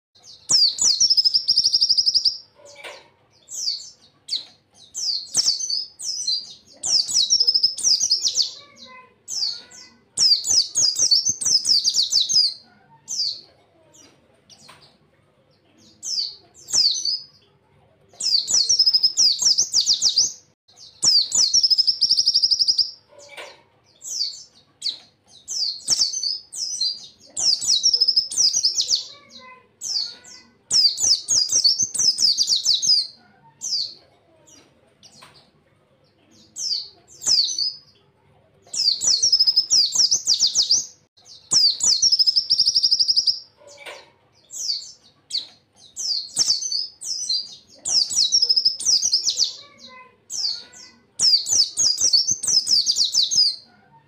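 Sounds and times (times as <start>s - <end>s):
bird high-pitched twittering: 0.2s - 13.4s, 18.2s - 34.0s, 38.7s - 53.7s.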